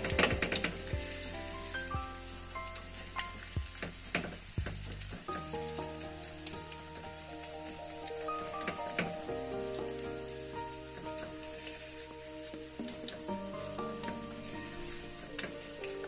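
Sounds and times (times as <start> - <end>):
batter sizzling in frying pan: 0.0 - 16.0
soft tune: 0.0 - 16.0.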